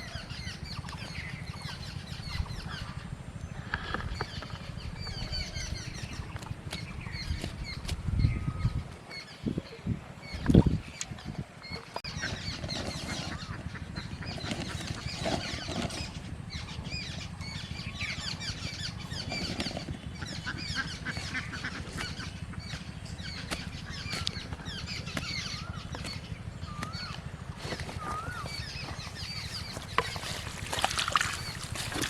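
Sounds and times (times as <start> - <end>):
chorus of bird chirps: 0.0 - 32.0
steady low hum: 0.0 - 32.0.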